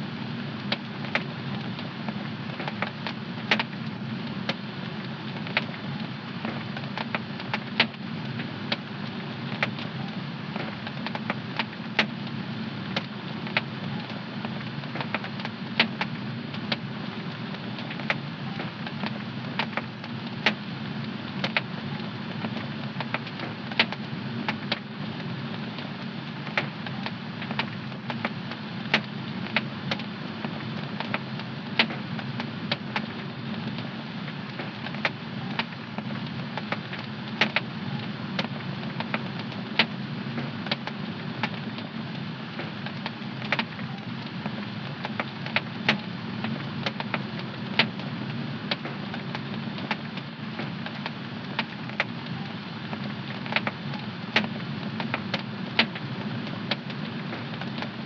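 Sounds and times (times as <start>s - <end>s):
fire popping and snapping: 0.5s - 58.0s.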